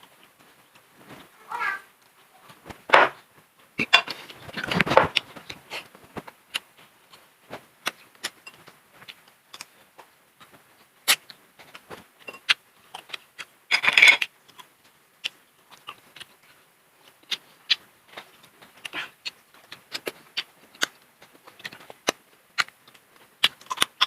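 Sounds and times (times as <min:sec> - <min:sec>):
person chewing and crunching food: 0:03.2 - 0:24.0.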